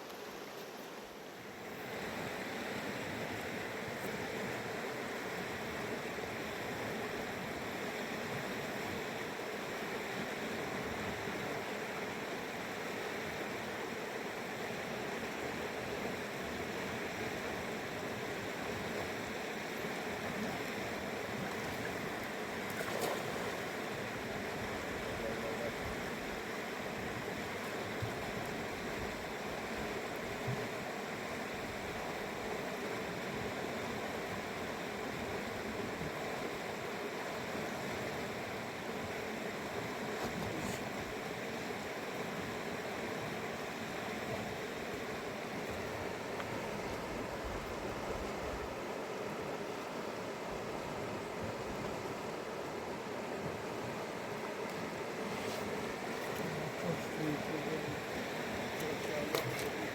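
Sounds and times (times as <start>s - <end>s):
fast river rushing: 1.3s - 59.9s.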